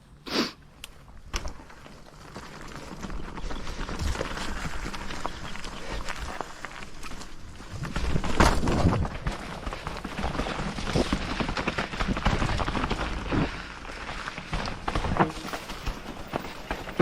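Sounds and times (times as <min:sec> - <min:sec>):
bike clattering over rough ground: 0:00.9 - 0:17.0.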